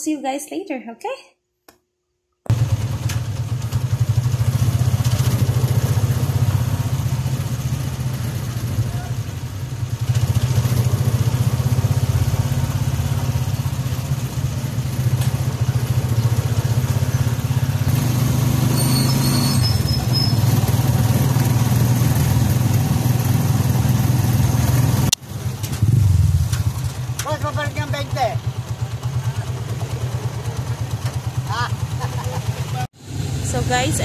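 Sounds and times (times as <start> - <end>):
motorcycle engine humming: 2.5 - 34.0
road noise: 2.5 - 34.0.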